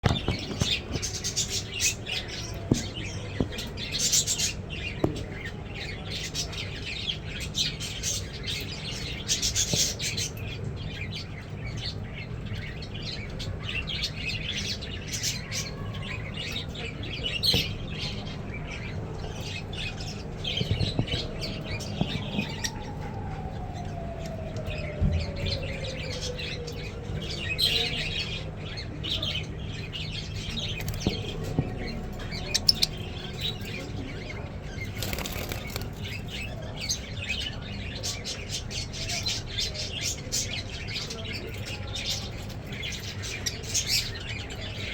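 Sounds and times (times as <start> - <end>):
lovebirds chirping and squawking: 0.0 - 44.9.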